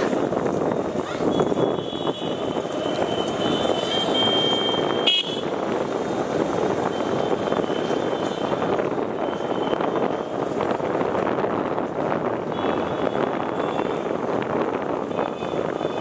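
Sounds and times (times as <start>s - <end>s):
vehicle road and wind rumble: 0.0s - 16.0s.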